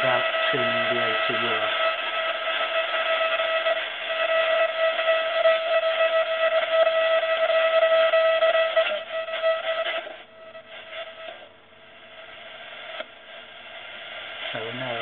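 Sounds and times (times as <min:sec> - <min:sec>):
radio interference buzz: 0:00.0 - 0:15.0
radio interference tones: 0:00.0 - 0:15.0.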